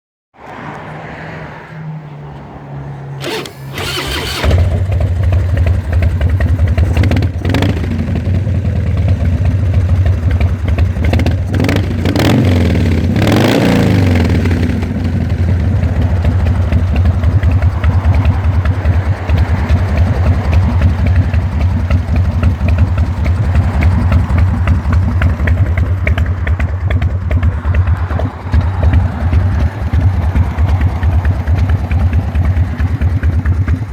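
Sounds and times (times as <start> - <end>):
motorcycle engine idling and revving: 2.0 - 33.9
motorcycle engine starting: 3.2 - 33.9.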